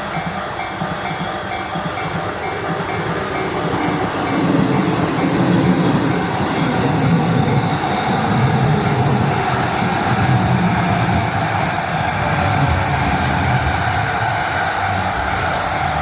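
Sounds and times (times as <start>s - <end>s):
electric train rumbling past: 0.0s - 16.0s.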